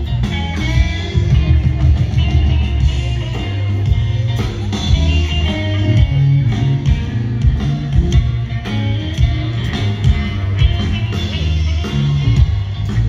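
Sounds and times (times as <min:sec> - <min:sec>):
bass line: 0:00.0 - 0:13.0
electric guitars: 0:00.0 - 0:13.0
live blues band playing: 0:00.0 - 0:13.0.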